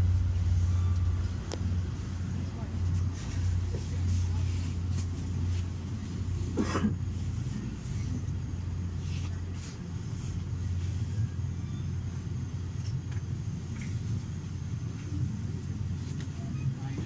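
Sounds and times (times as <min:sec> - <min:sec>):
train coach hum and rumble: 0:00.0 - 0:17.0.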